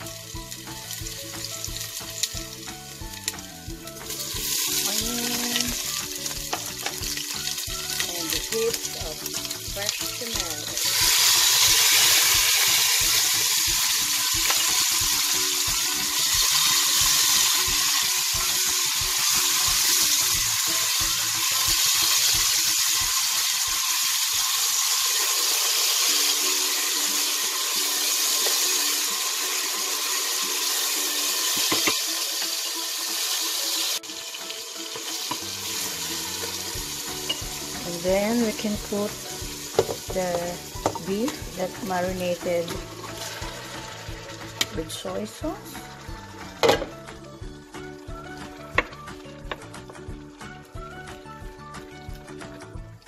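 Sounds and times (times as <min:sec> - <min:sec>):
vegetables sizzling in hot oil: 0:00.0 - 0:52.7.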